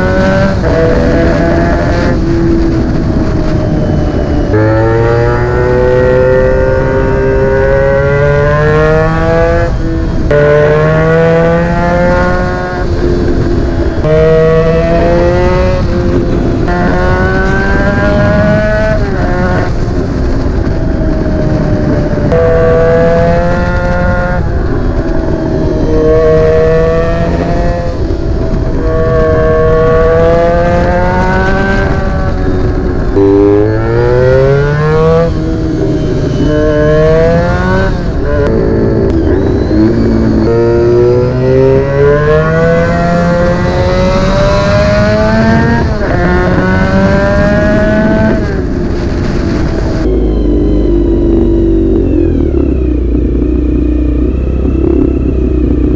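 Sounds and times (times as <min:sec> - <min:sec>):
motorcycle engine revving through gears: 0:00.0 - 0:55.9.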